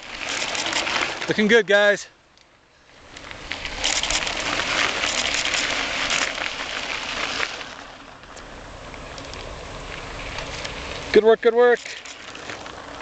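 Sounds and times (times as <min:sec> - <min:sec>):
bike tyres crunching over dirt: 0:00.0 - 0:13.0.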